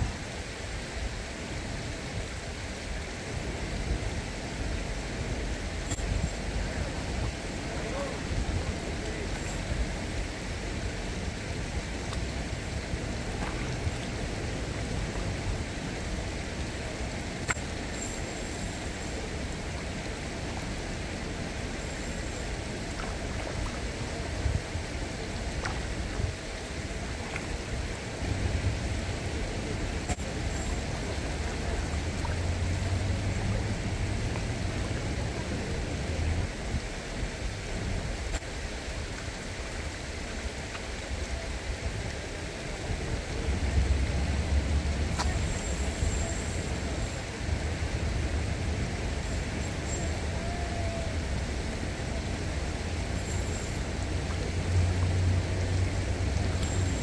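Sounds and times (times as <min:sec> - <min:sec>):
flowing water hiss: 0:00.0 - 0:57.0
distant road traffic rumble: 0:03.4 - 0:36.7, 0:42.6 - 0:57.0.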